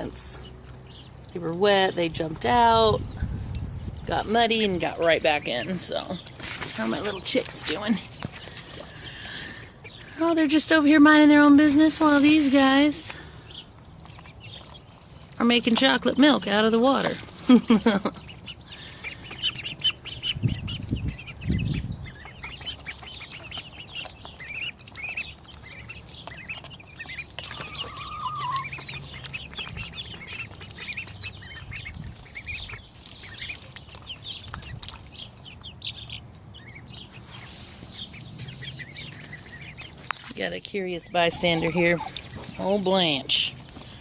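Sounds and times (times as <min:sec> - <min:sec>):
ducklings and chicks peeping: 0:00.0 - 0:44.0.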